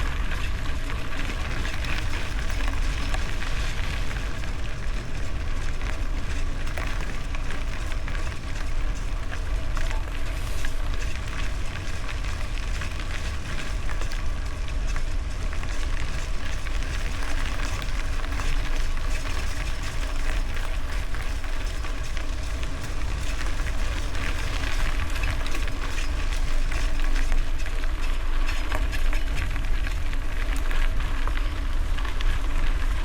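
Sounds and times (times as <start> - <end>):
bicycle rolling over gravel: 0.0 - 33.0
wind rumbling on microphone: 0.0 - 33.0.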